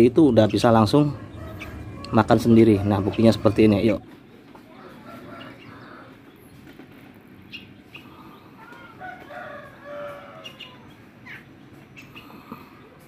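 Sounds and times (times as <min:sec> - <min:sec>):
chickens clucking and crowing: 0:00.0 - 0:13.0.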